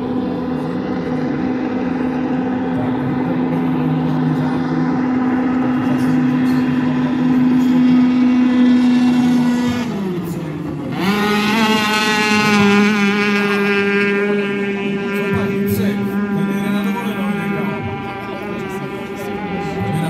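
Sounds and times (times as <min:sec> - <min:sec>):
outboard engine at high revs: 0:00.0 - 0:20.0.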